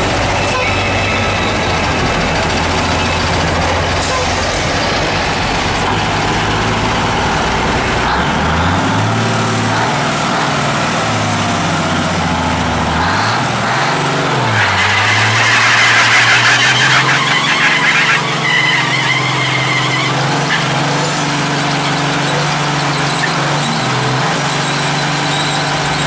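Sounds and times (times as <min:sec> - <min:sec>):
diesel truck engine idling and revving: 0:00.0 - 0:26.0.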